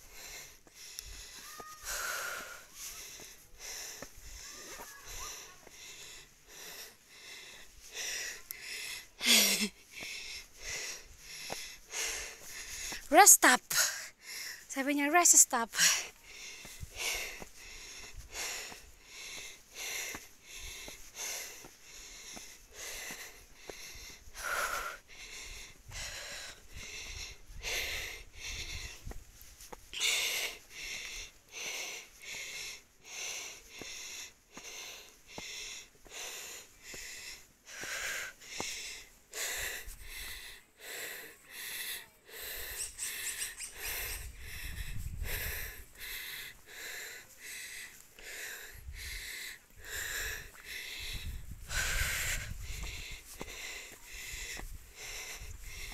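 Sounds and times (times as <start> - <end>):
person panting: 0.0 - 14.7, 15.5 - 55.9.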